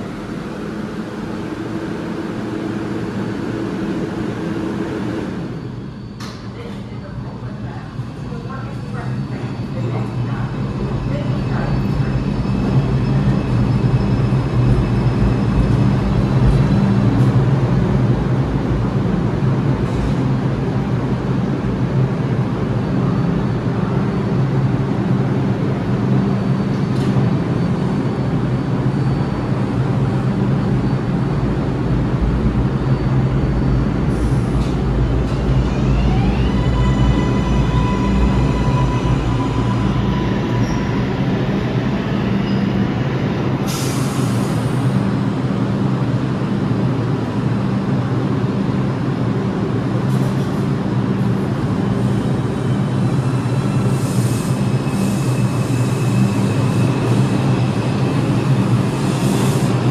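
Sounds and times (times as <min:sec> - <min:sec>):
subway train humming: 0:00.0 - 0:59.9.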